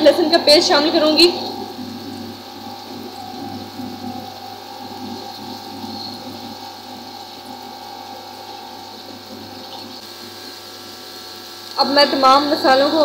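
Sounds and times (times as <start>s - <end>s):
low hum: 0.0s - 13.0s
onions frying in oil: 0.0s - 13.0s.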